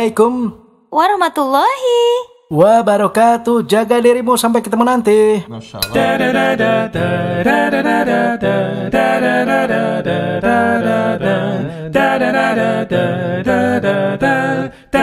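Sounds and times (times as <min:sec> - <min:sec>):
voices singing a cappella: 0:02.5 - 0:15.0.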